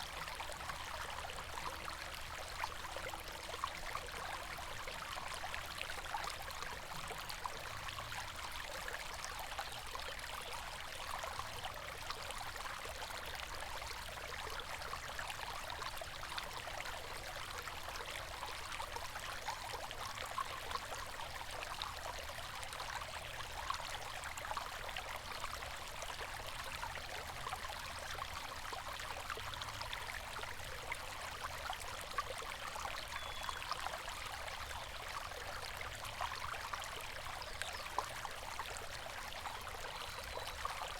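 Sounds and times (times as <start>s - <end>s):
small splashes and trickles: 0.0s - 40.9s.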